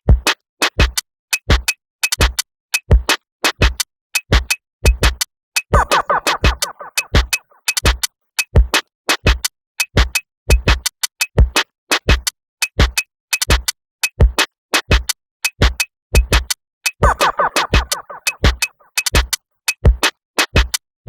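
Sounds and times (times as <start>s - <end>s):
drum machine beat: 0.0s - 20.8s.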